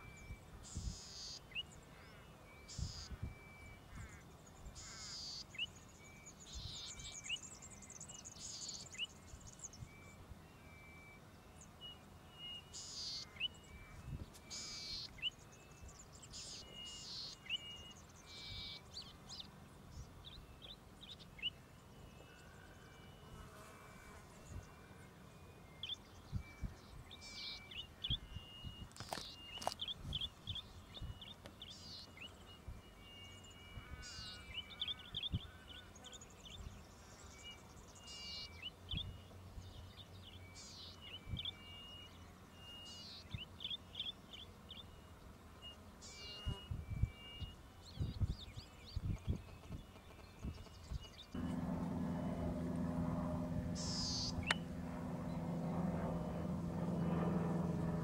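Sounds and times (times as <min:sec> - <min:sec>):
bird singing buzzes and tinkling notes: 0:00.0 - 0:58.0.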